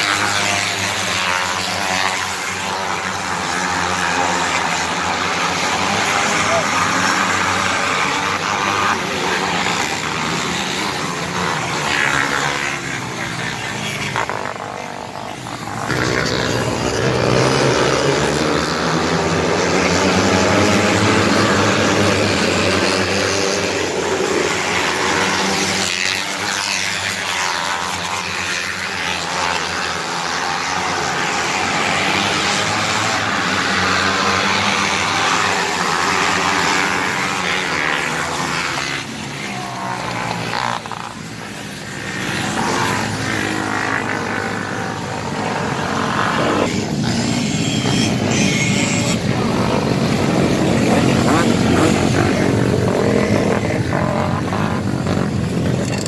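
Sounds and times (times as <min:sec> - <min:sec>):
race car engines passing: 0:00.0 - 0:56.0.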